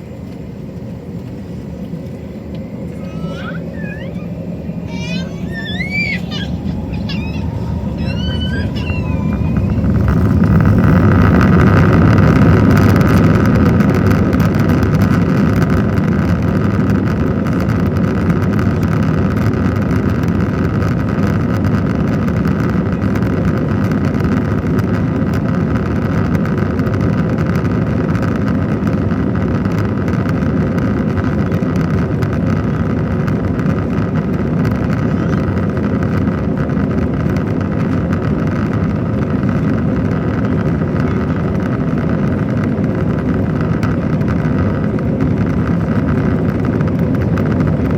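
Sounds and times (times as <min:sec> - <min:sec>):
jet cabin engine roar: 0:00.0 - 0:47.9.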